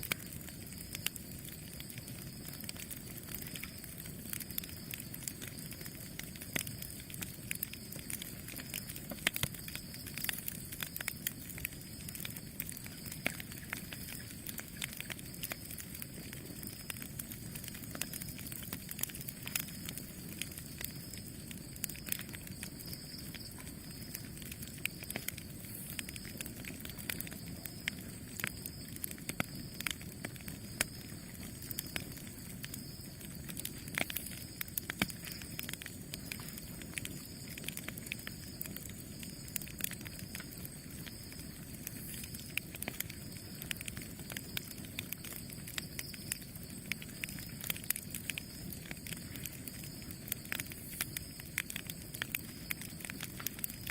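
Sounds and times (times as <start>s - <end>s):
burning wood crackling and popping: 0.0s - 53.9s
campfire flames rushing: 0.0s - 53.9s.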